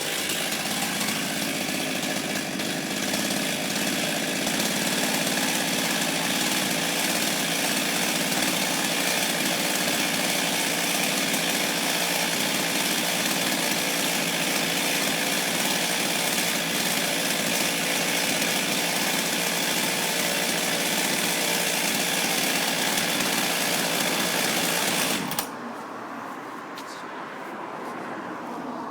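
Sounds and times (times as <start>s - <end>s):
chainsaw engine running: 0.0s - 25.6s.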